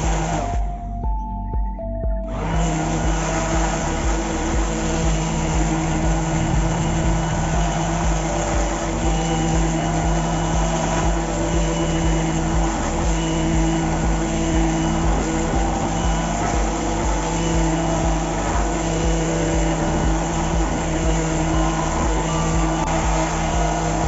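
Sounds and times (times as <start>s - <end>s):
orbital sander motor hum: 0.0s - 1.2s, 2.2s - 24.0s.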